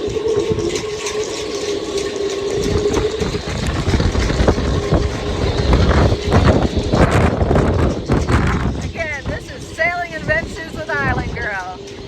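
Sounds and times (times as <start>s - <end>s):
steady ringing tone: 0.0s - 12.0s
wind buffeting microphone: 0.0s - 12.0s.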